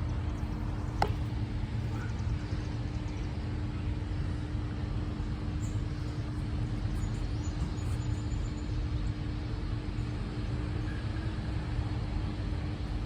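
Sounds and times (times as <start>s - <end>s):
faint constant hum: 0.0s - 13.0s
outdoor background rumble: 0.0s - 13.0s.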